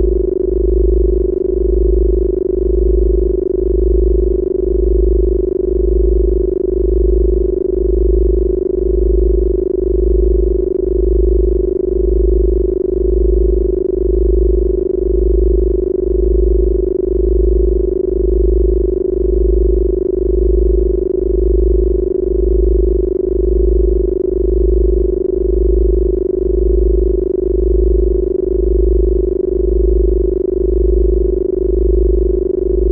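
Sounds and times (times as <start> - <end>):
pulsing deep low tone: 0.0 - 32.9
steady sine-tone hum: 0.0 - 32.9.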